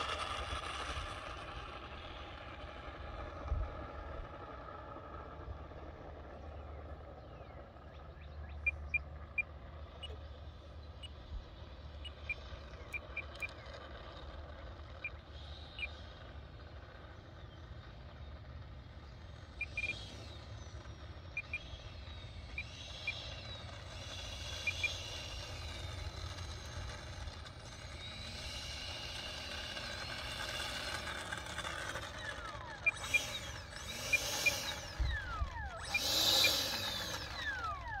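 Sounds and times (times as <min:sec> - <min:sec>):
electric ducted fan whining: 0:00.0 - 0:38.0.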